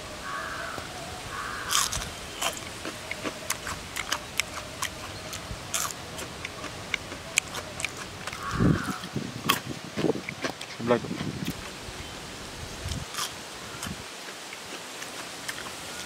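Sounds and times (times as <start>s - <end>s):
crunchy chip being chewed: 1.7s - 11.8s, 12.9s - 16.0s.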